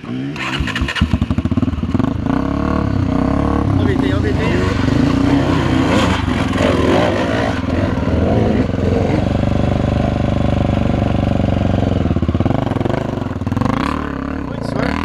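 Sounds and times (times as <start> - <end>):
dirt bike engine revving hard: 0.0 - 15.0.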